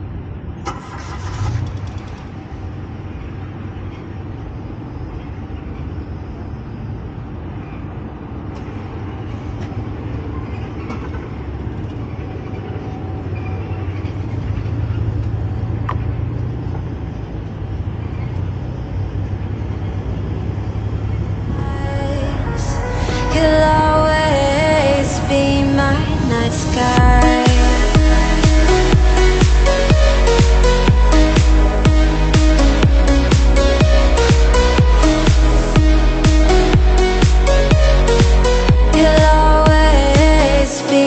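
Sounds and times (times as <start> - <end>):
car engine and road noise: 0.0 - 41.0.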